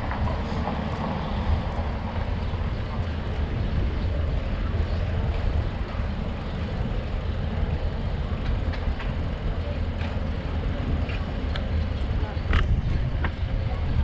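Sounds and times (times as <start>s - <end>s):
bicycle clicks and rattles: 0.0s - 14.0s
bicycle tyres rolling: 0.0s - 14.0s
wind rumble on microphone: 0.0s - 14.0s.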